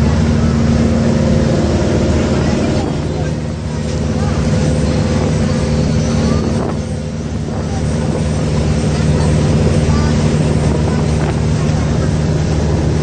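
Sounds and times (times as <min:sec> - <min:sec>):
boat engine droning: 0:00.0 - 0:13.0
water noise: 0:00.0 - 0:13.0.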